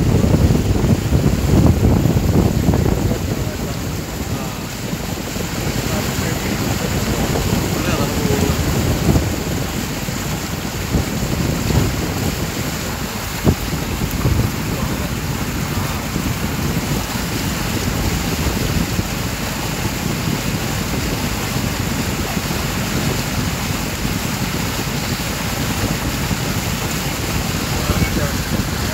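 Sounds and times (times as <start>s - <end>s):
water rushing: 0.0s - 28.9s
wind noise on microphone: 0.0s - 28.9s.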